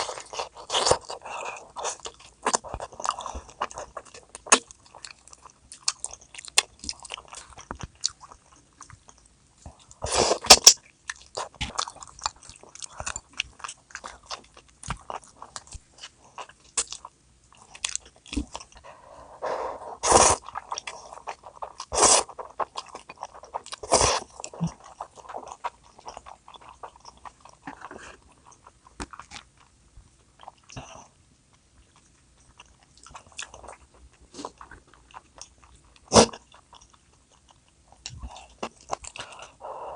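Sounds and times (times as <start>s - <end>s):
chewing and crunching: 0.0s - 19.3s, 19.9s - 39.7s.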